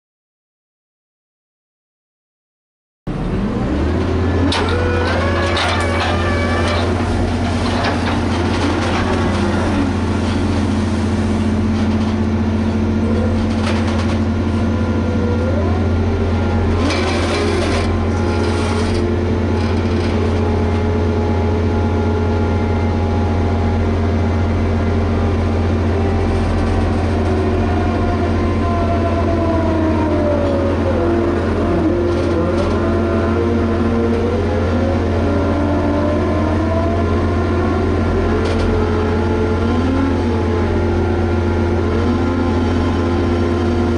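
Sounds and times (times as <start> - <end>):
diesel engine running under load: 3.1 - 43.9
whining tones shifting in pitch: 3.1 - 43.9.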